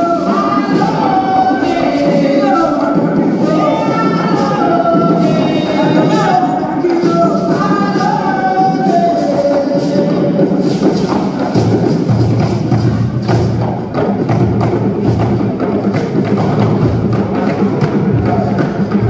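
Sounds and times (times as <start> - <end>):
drums: 0.0 - 19.0.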